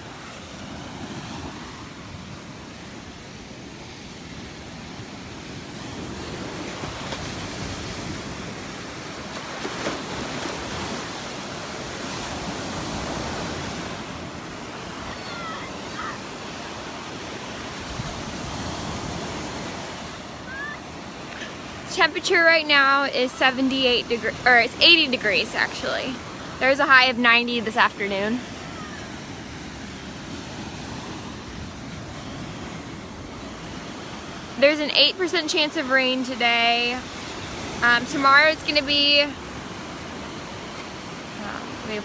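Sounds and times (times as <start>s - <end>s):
surf washing onto beach: 0.0s - 42.0s.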